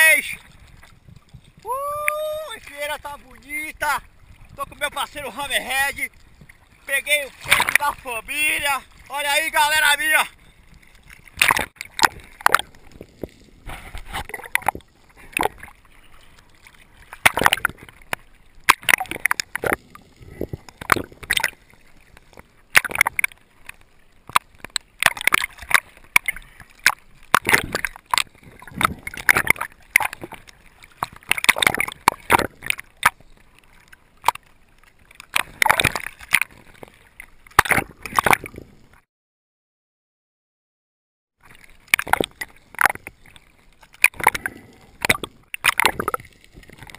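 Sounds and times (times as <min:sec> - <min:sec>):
water sloshing and gurgling: 0:00.0 - 0:39.1, 0:41.4 - 0:46.9.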